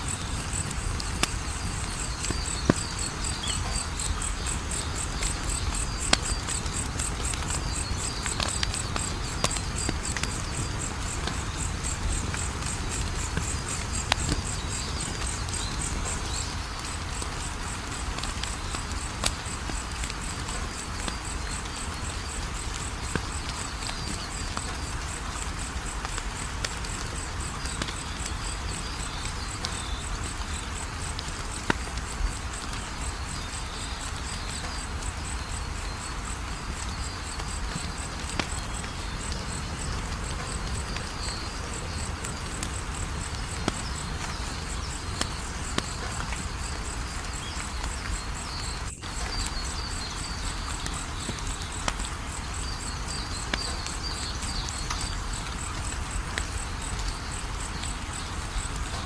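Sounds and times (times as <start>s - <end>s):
cricket chirping: 0.0s - 59.0s
wood fire crackling: 0.0s - 59.0s.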